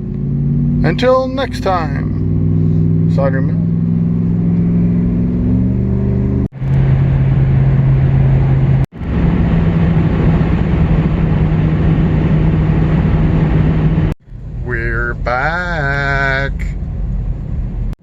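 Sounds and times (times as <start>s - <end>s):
road noise: 0.0s - 18.0s
vehicle engine cruising: 0.0s - 18.0s.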